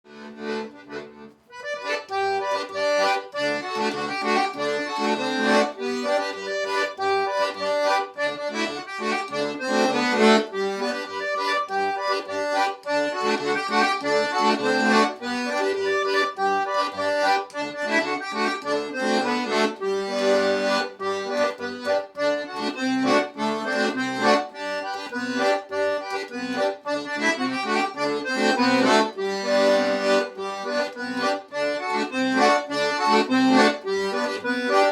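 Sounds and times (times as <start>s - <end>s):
accordion playing lively tune: 0.1s - 34.9s.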